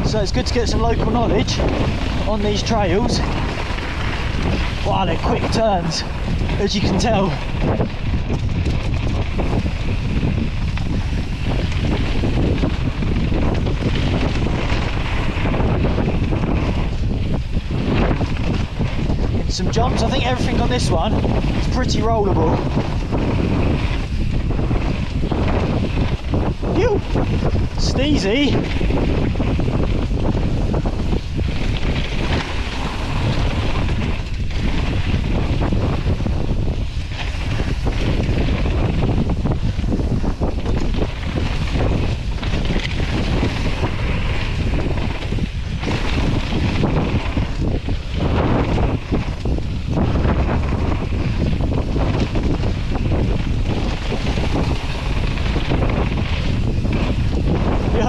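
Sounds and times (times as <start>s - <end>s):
bike rattling over dirt trail: 0.0s - 58.0s
tyre rumble: 0.0s - 58.0s
wind rushing over microphone: 0.0s - 58.0s.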